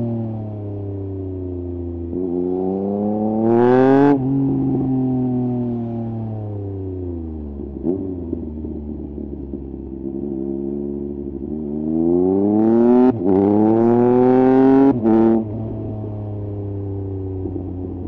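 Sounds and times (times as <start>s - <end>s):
motorcycle engine revving: 1.9s - 18.0s.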